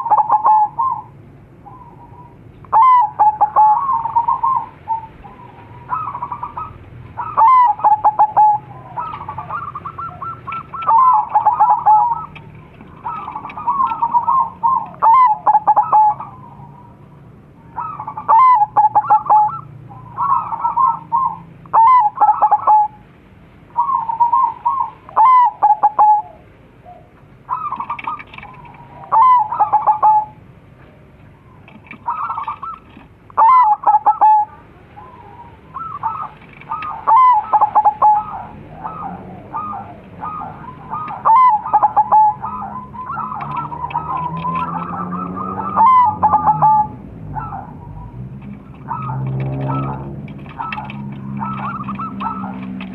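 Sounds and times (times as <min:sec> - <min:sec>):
doves cooing: 0:00.0 - 0:23.1, 0:23.7 - 0:52.9.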